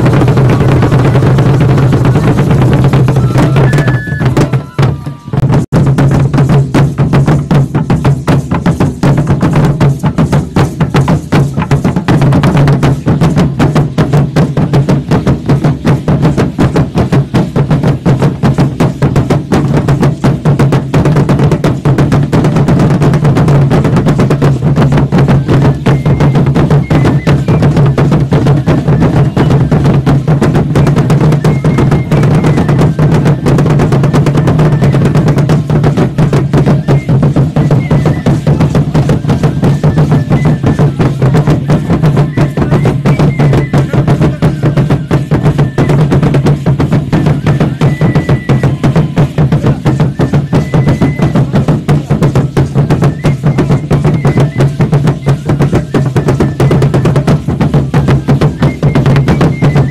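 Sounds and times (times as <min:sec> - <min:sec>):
big drum beating: 0:00.0 - 0:59.9
clatter of percussion: 0:00.0 - 0:59.9.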